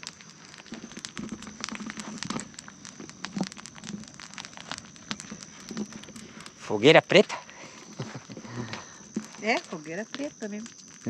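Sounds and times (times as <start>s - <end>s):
bonfire crackling and popping: 0.0s - 11.0s.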